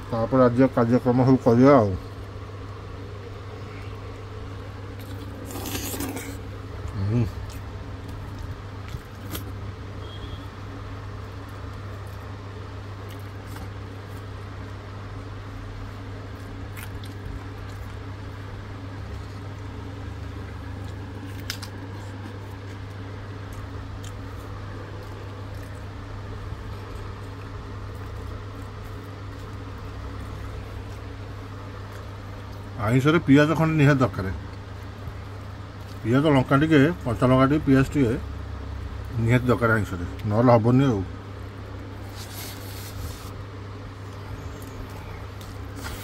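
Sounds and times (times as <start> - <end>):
low room hum: 0.0 - 46.0.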